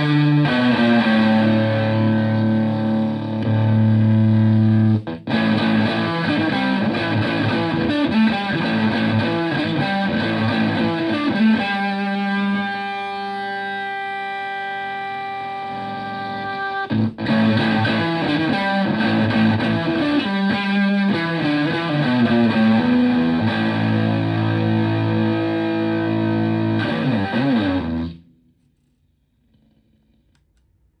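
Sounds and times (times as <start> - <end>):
distorted electric guitar: 0.0 - 28.3.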